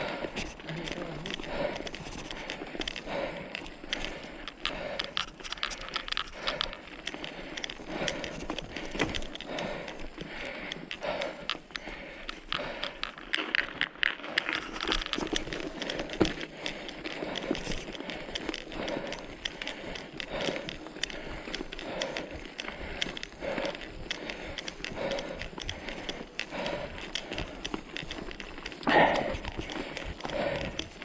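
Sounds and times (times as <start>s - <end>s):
footsteps crunching on trail: 0.0s - 31.0s.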